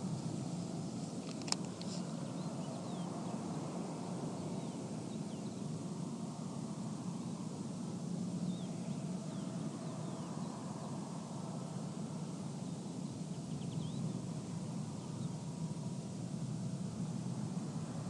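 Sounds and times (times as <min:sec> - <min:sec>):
distant generators: 0:00.0 - 0:18.0
light wind rumble: 0:00.0 - 0:18.0.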